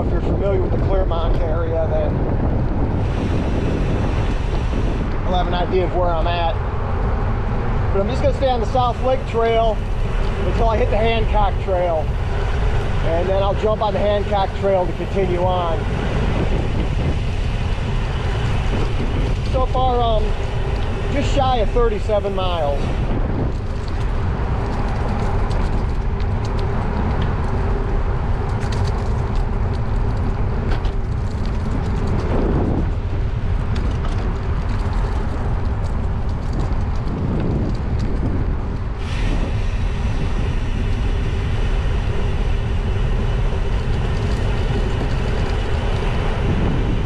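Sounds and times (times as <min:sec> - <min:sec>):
bicycle tyres rolling on pavement: 0:00.0 - 0:47.0
wind noise on microphone: 0:00.0 - 0:47.0.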